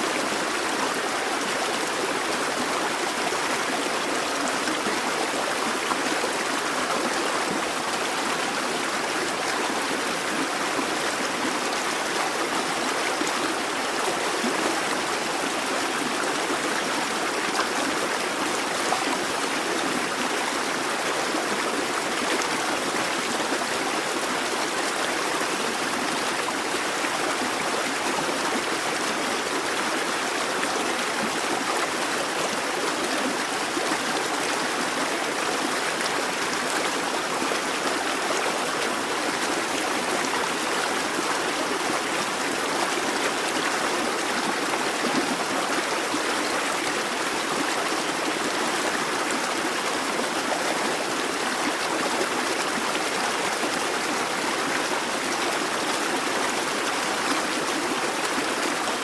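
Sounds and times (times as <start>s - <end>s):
brook gurgling over stones: 0.0s - 59.0s.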